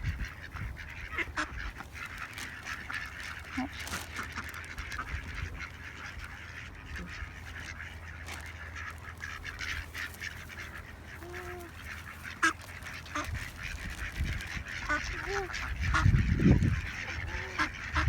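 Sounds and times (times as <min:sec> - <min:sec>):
ducks calling: 0:00.0 - 0:18.0.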